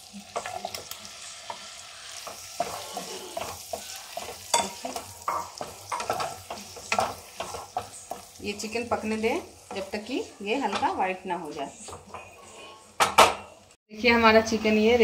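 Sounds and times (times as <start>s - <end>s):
chicken sizzling in butter: 0.0s - 12.8s
wooden spatula scraping a pan: 0.2s - 13.0s.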